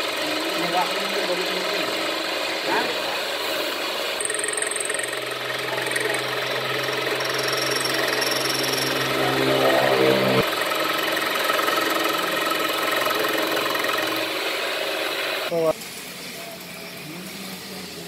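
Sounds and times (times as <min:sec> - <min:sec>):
motor humming: 0:00.0 - 0:15.5
faint machine hum: 0:00.0 - 0:18.0.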